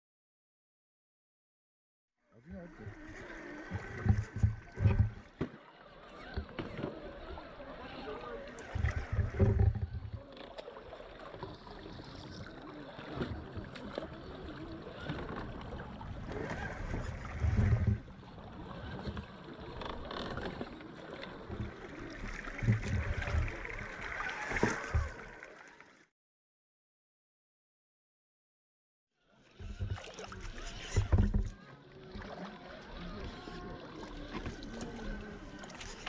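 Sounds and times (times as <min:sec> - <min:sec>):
creek water splashing: 0:02.6 - 0:26.1, 0:29.6 - 0:36.0.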